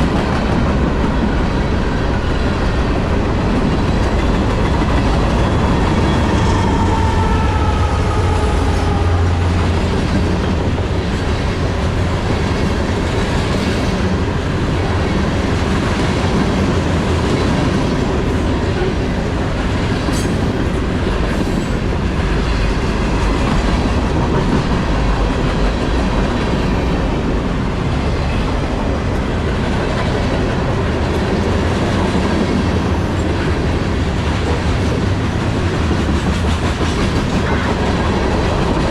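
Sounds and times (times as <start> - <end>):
freight train low rumble: 0.0 - 38.9.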